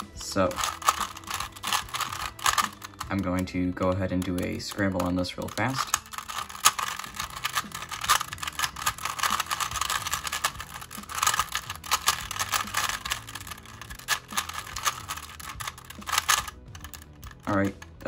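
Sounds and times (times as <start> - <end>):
puzzle cube clacking and rattling: 0.0 - 18.0.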